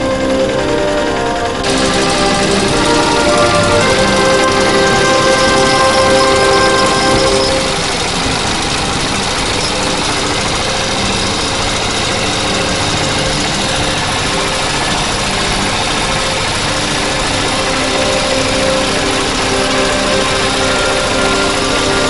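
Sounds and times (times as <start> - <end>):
small vehicle engine running: 0.0 - 22.0.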